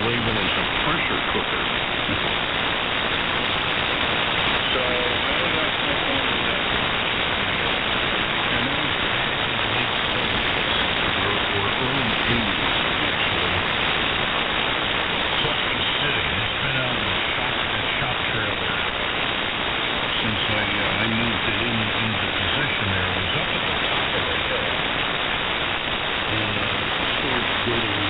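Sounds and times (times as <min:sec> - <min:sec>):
faint radio voices: 0:00.0 - 0:28.0
radio interference hiss: 0:00.0 - 0:28.0.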